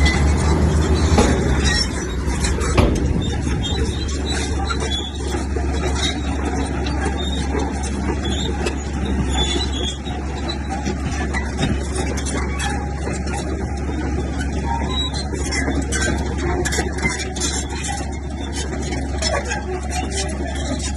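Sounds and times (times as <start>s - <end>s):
bulldozer diesel engine hum: 0.0s - 20.9s
metallic squeaks and clanks: 0.0s - 20.9s.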